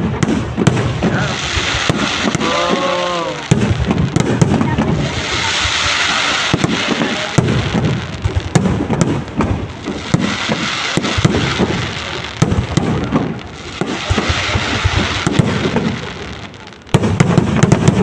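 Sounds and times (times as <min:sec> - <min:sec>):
fireworks bursts and cracks: 0:00.0 - 0:18.0
fireworks rumble and crackle: 0:00.0 - 0:18.0.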